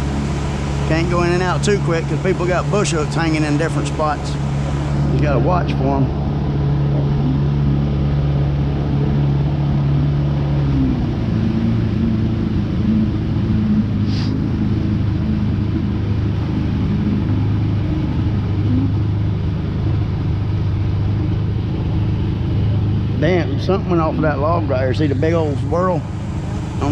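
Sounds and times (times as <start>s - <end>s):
outboard motor running: 0.0s - 26.9s.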